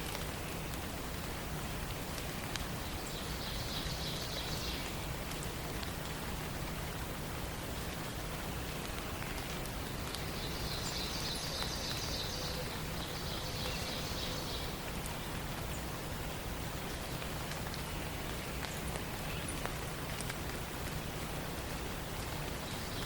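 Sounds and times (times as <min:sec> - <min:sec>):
forest ambience hiss: 0:00.0 - 0:23.0.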